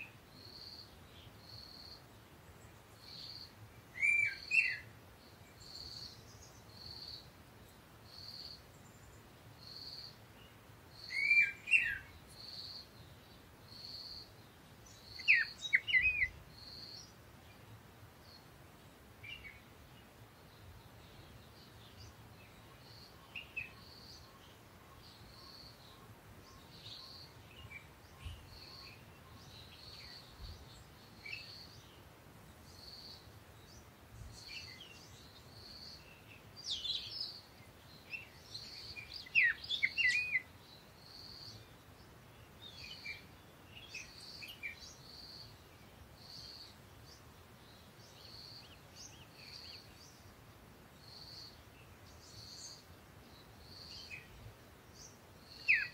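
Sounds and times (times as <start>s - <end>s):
birds chirping: 0.0s - 50.3s, 51.0s - 55.9s.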